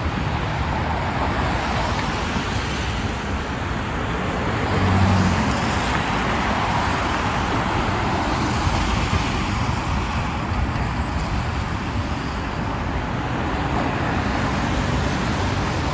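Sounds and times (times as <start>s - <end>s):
highway traffic on wet pavement: 0.0s - 15.9s.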